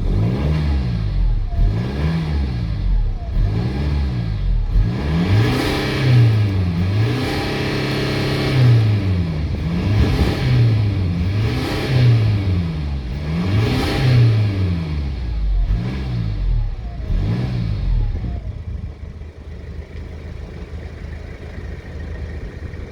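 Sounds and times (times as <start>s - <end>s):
diesel engine revving and idling: 0.0s - 22.9s.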